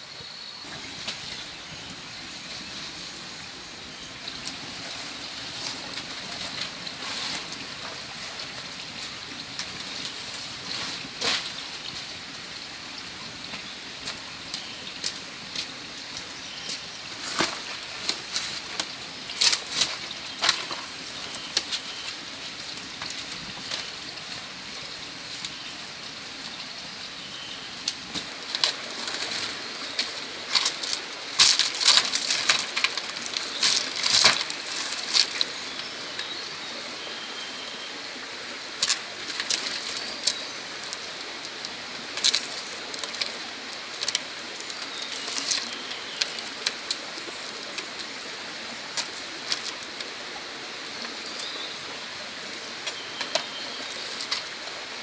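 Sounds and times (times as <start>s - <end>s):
rustling leaves and basket: 0.0s - 55.0s
wood fire crackling: 0.6s - 36.3s, 38.1s - 55.0s.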